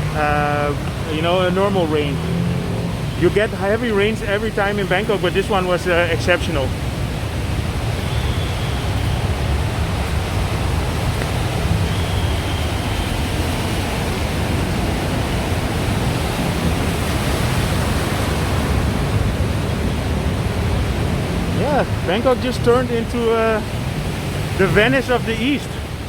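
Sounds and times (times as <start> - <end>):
heavy rain on flooded street: 0.0 - 26.0.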